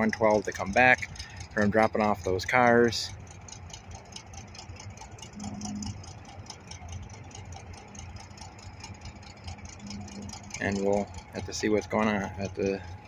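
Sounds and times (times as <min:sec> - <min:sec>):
diesel locomotive engine idling: 0:00.0 - 0:13.0
faint regular ticking: 0:00.0 - 0:13.0.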